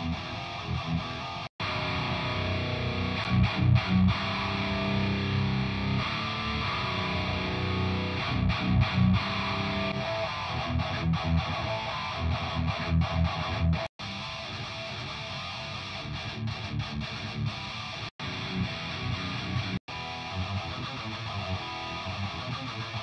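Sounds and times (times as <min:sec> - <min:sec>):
distorted electric guitar riff: 0:00.0 - 0:23.0.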